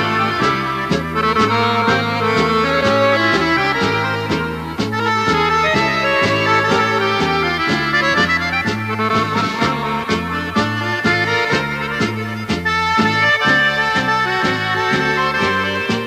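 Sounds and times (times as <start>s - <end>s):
accordion folk music: 0.0s - 16.0s.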